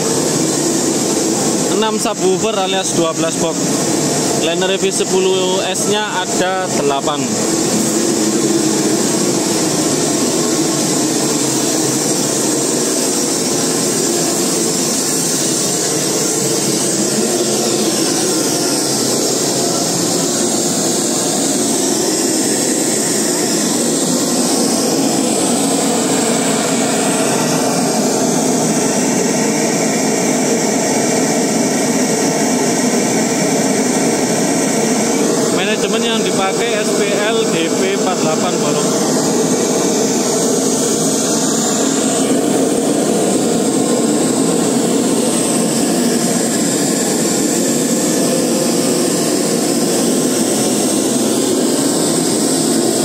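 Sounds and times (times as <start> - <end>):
machinery running: 0.0 - 53.0.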